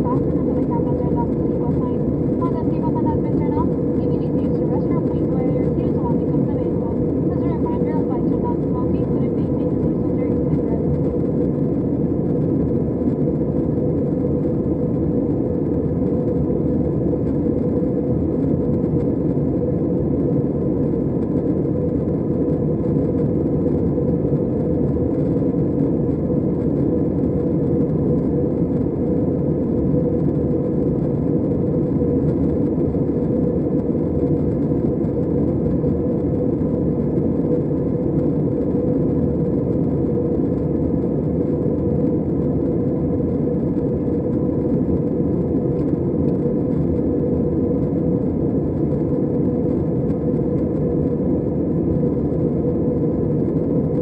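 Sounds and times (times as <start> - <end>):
rush of engines and airflow: 0.0 - 54.0
steady hum: 0.0 - 54.0.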